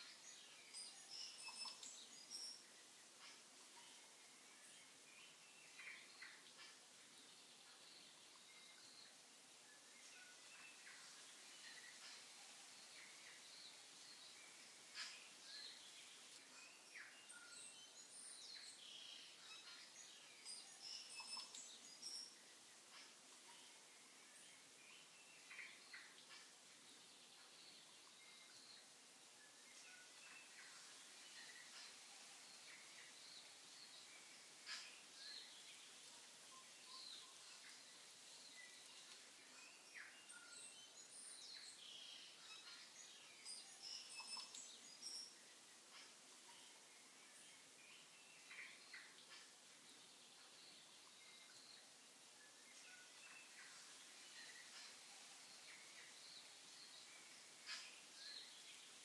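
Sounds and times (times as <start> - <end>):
quiet hiss: 0.0 - 59.0.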